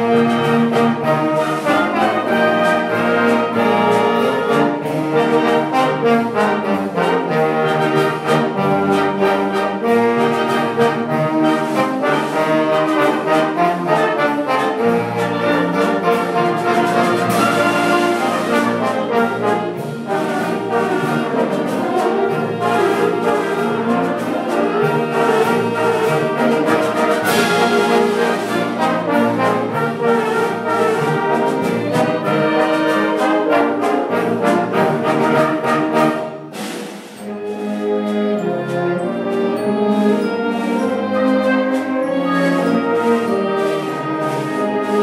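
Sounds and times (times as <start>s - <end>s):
concert band playing: 0.0s - 45.0s.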